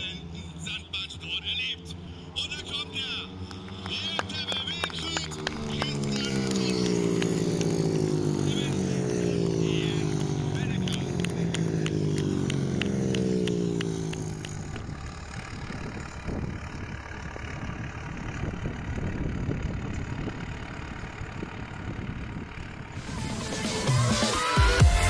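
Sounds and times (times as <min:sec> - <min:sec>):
racing motorcycle engines: 0:00.0 - 0:25.0.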